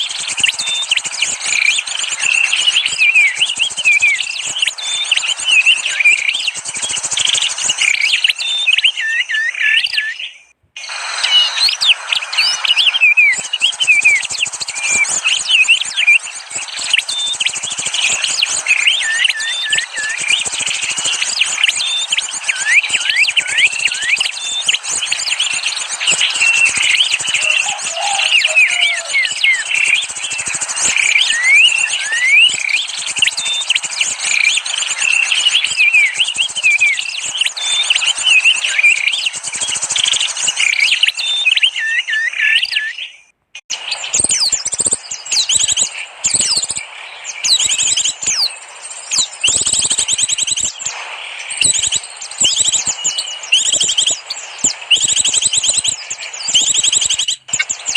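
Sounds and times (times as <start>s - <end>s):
songbirds chirping chorus: 0.0s - 57.9s.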